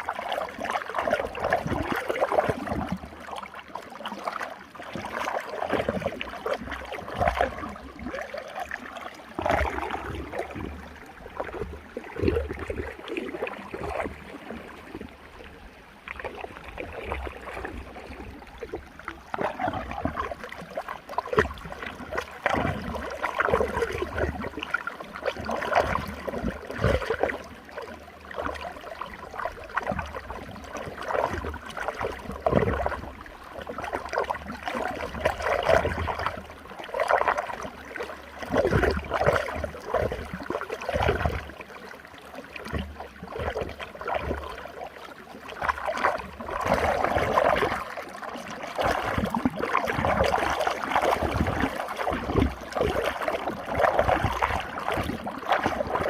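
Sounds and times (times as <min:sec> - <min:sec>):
water swirling in a whirlpool: 0:00.0 - 0:56.0.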